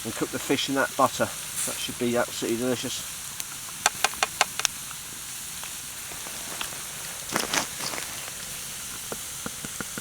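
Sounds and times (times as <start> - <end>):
chips sizzling in hot oil: 0.0 - 10.0
oil crackling: 0.0 - 10.0.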